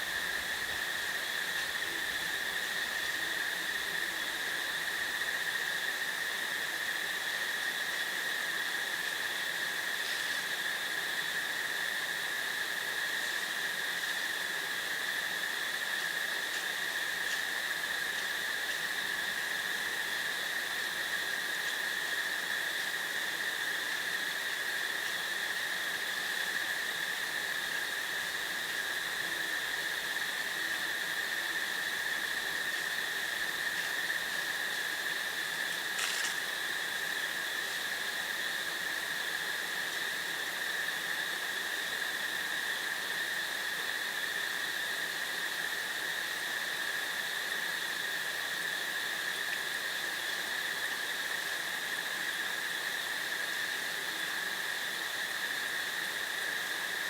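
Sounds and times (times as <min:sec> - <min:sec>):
constant hiss: 0:00.0 - 0:57.0
insect chorus: 0:00.0 - 0:57.0.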